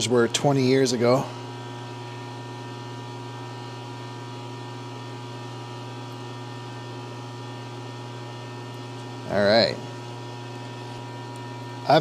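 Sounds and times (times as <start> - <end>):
milling machine electrical hum: 0.0 - 12.0.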